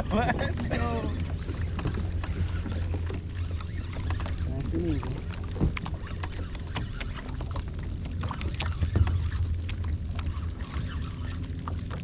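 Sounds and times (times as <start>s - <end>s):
water lapping against plastic hulls: 0.0s - 12.0s.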